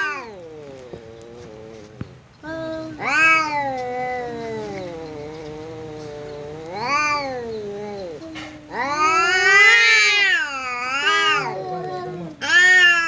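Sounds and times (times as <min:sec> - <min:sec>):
cats yowling: 0:00.0 - 0:02.1, 0:02.9 - 0:13.0.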